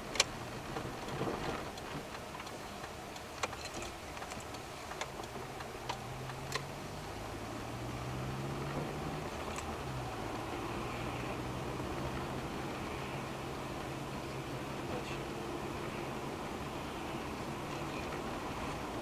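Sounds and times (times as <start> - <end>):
road and engine hum: 0.0 - 19.0.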